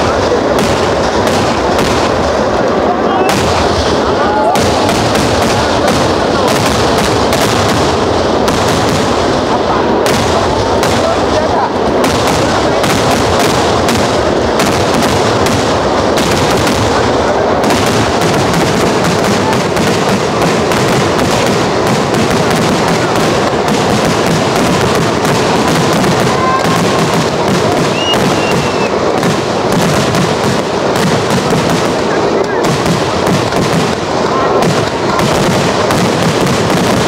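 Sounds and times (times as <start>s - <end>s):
fireworks crackling barrage: 0.0s - 37.0s.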